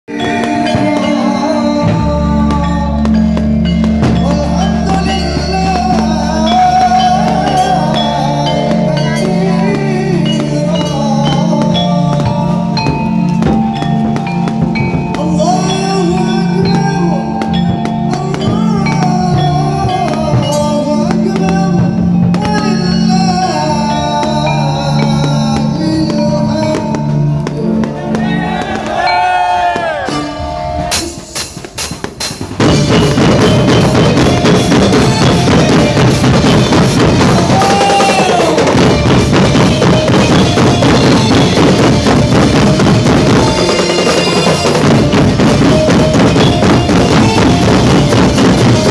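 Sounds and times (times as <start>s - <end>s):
music with singing: 0.1s - 48.9s.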